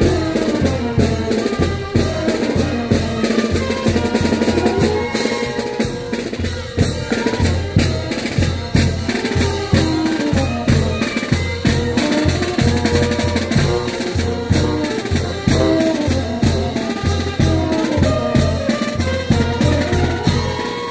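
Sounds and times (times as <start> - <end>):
bass drum and snare beat: 0.0 - 20.9
brass marching band playing: 0.0 - 20.9.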